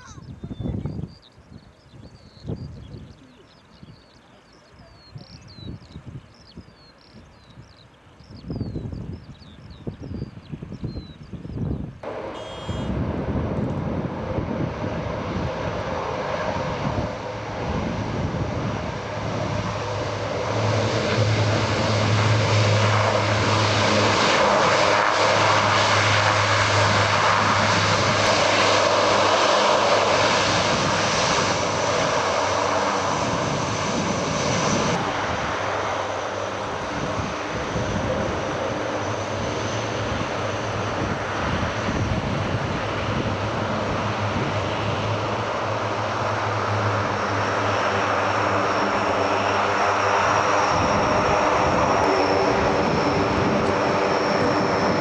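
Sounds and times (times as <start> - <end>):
low-flying aircraft engines drone: 0.0 - 55.0.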